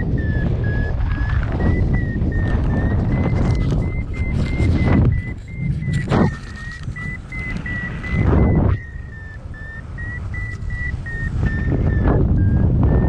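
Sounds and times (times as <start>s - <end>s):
rapid high-pitched beeping: 0.0s - 13.0s
wind on microphone: 0.0s - 13.0s.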